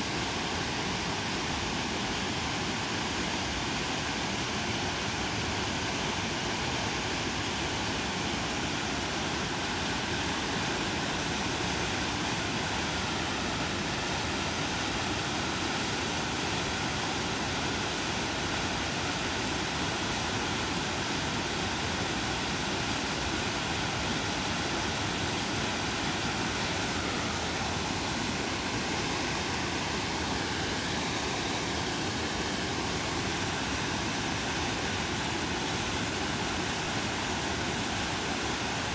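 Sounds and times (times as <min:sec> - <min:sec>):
creek whitewater rushing: 0:00.0 - 0:38.9.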